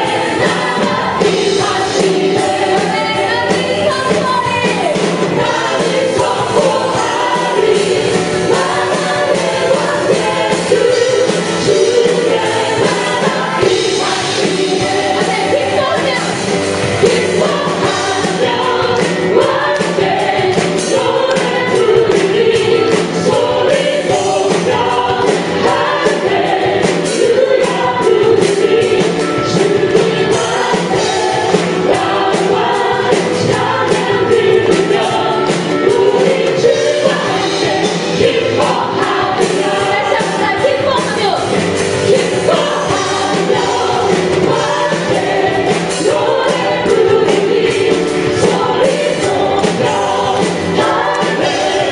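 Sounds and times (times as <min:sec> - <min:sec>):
choir singing gospel: 0:00.0 - 0:51.9
praise band playing: 0:00.0 - 0:51.9.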